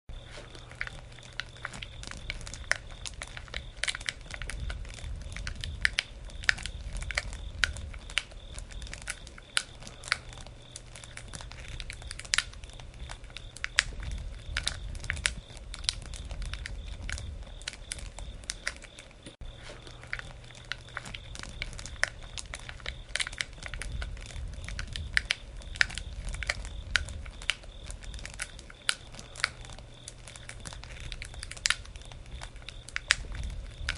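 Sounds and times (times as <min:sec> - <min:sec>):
campfire crackling and popping: 0:00.1 - 0:33.9
low rumble of fire: 0:00.1 - 0:33.9.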